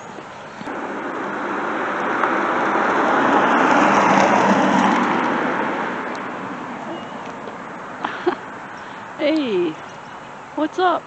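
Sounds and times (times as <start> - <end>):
car passing by: 0.6 - 10.6.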